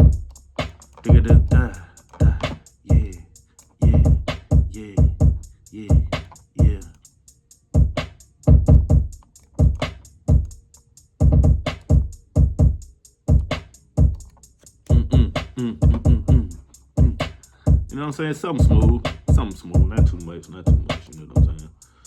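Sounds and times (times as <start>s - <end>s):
hip-hop drum loop: 0.0s - 22.0s.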